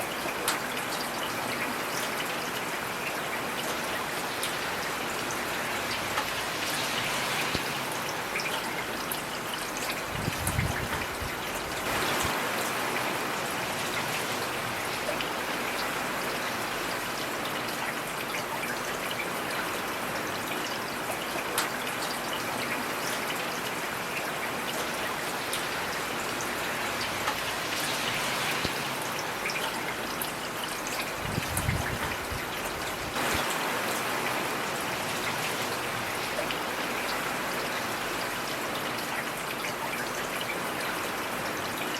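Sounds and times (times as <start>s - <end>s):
heavy rain falling: 0.0s - 41.9s
raindrops ticking close by: 0.0s - 41.9s.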